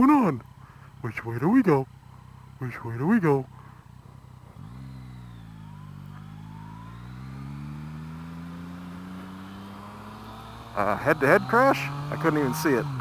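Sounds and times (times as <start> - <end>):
motorcycle engine pulling away: 0.0 - 13.0.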